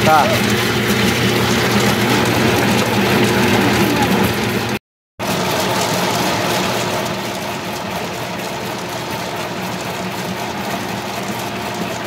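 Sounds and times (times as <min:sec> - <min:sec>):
pulping machine humming and whirring: 0:00.0 - 0:12.0.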